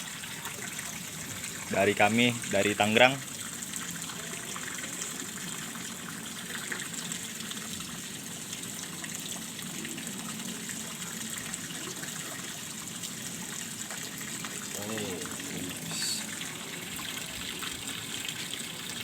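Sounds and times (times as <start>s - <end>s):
running water gushing: 0.0s - 19.0s.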